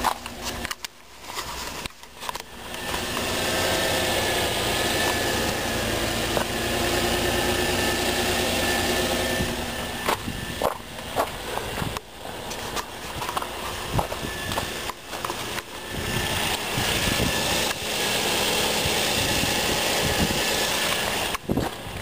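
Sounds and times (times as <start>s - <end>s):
car engine idling: 2.4s - 22.0s.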